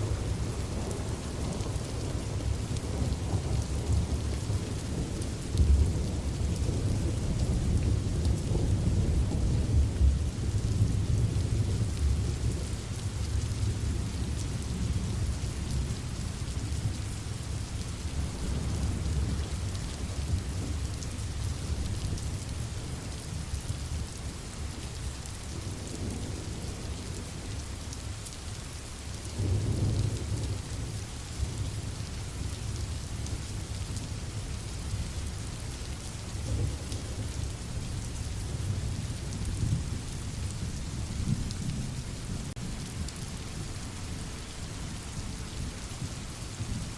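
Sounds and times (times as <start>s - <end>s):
steady rain: 0.0s - 46.9s.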